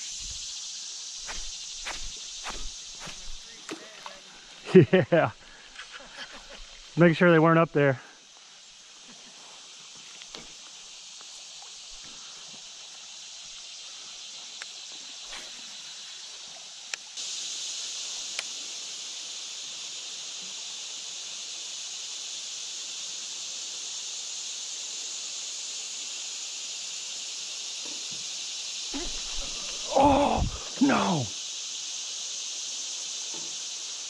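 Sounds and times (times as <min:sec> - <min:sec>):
insect chorus buzzing: 0:00.0 - 0:34.0.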